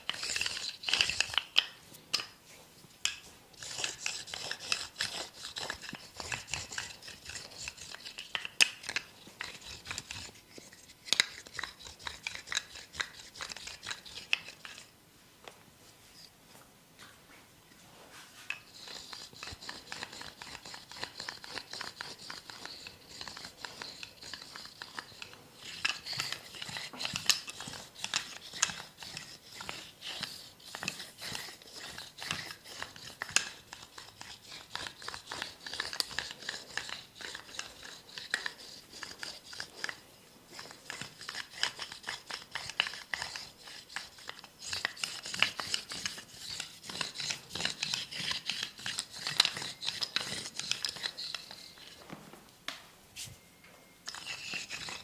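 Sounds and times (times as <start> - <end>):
hands rubbing and scratching skin: 0.0 - 2.4, 3.0 - 14.9, 18.1 - 52.0, 54.1 - 55.0.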